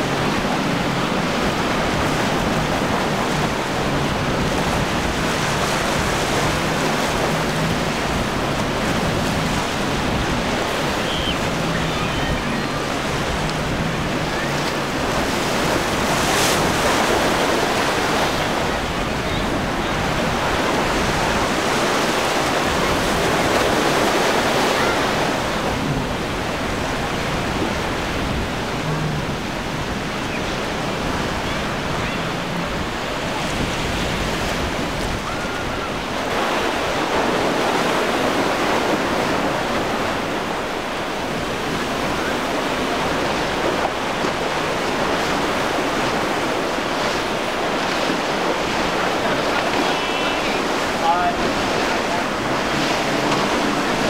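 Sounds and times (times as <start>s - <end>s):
surf breaking and rushing: 0.0s - 54.0s
wind buffeting microphone: 0.0s - 54.0s.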